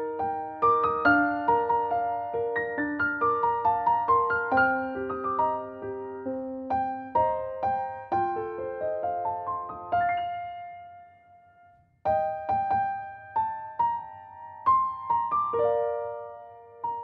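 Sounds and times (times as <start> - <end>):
gentle piano tune: 0.0 - 17.0.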